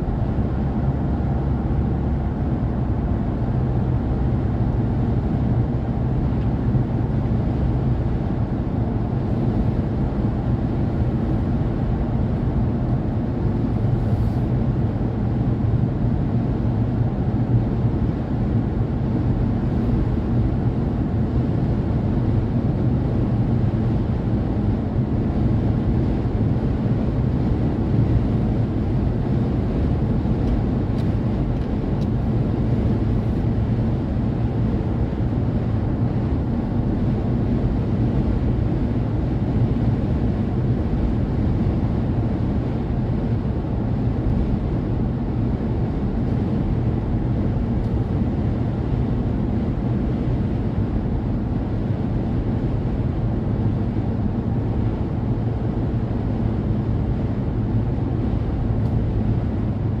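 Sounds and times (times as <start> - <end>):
car driving on highway: 0.0 - 60.0.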